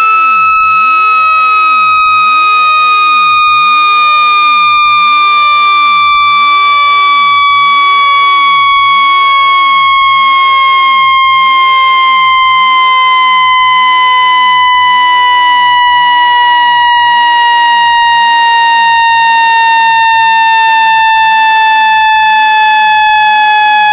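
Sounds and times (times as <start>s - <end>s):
buzzy descending synthetic tone: 0.0s - 23.9s.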